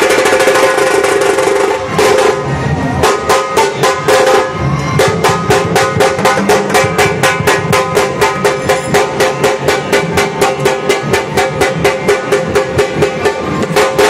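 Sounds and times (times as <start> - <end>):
barrel drums beaten with sticks: 0.0 - 14.0.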